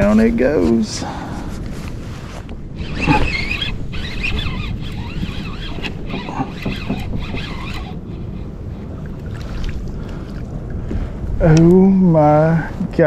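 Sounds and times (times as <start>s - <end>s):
water around hull: 0.0s - 13.0s
wind buffeting microphone: 0.0s - 13.0s.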